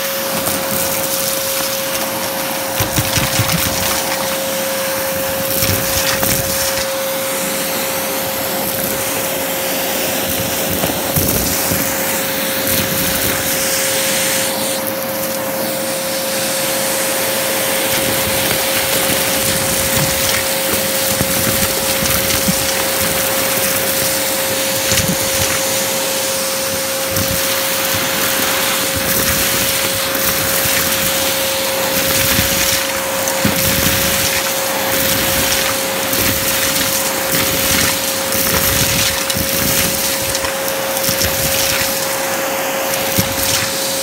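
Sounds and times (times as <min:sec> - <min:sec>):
debris rattling in vacuum: 0:00.0 - 0:44.0
vacuum cleaner whining: 0:00.0 - 0:44.0.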